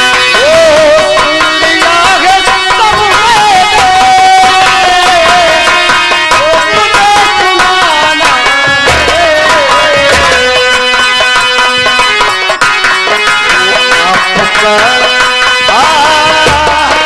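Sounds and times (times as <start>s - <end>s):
hand drum beats: 0.0s - 17.0s
held instrumental notes: 0.0s - 17.0s
person singing into microphone: 0.0s - 17.0s.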